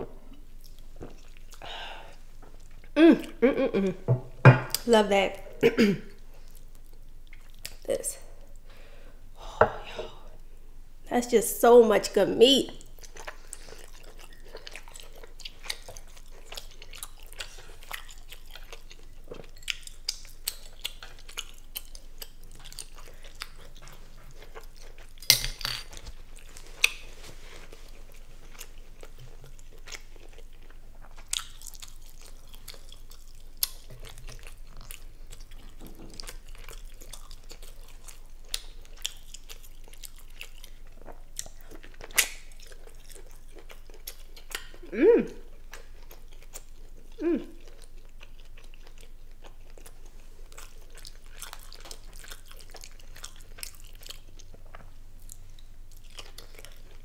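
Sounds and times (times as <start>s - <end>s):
person chewing: 0.2s - 4.1s, 6.1s - 7.8s, 12.8s - 57.0s.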